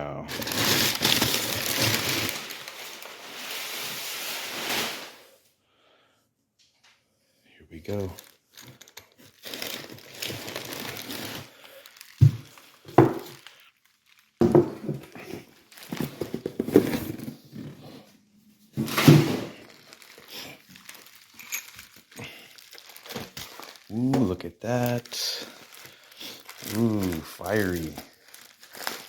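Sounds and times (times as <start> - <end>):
plastic wrap crinkling: 0.3 - 5.3, 7.9 - 17.4, 18.7 - 29.0.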